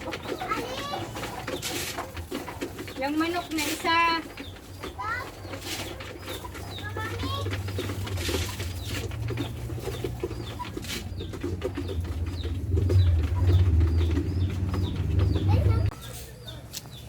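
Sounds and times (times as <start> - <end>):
wing flapping: 0.0 - 15.9
hens clucking: 0.0 - 17.0.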